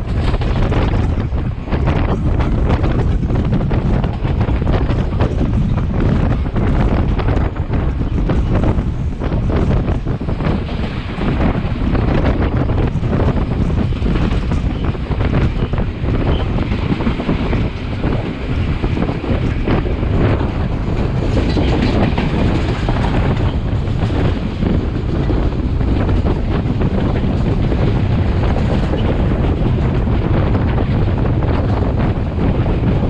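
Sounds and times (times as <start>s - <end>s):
train wheels clattering: 0.0s - 33.0s
wind buffeting microphone: 0.0s - 33.0s.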